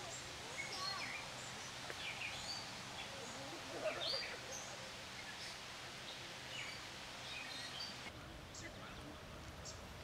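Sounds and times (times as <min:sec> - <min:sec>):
steady background hiss: 0:00.0 - 0:10.0
wild birds chirping: 0:00.0 - 0:10.0.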